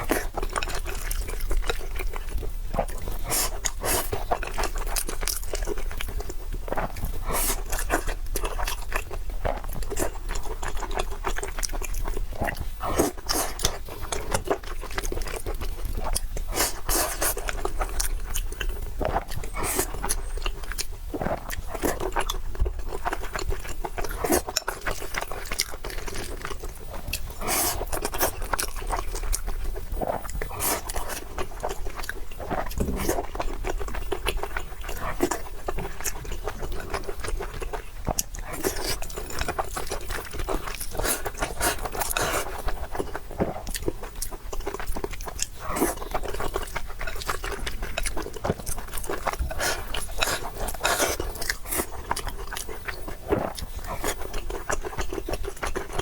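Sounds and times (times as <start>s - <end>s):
person chewing and biting: 0.0s - 56.0s.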